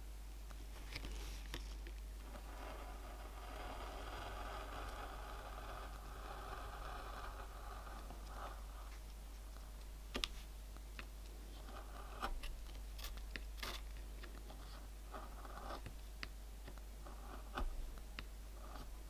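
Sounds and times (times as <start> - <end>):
gouge carving lino: 0.9 - 19.0.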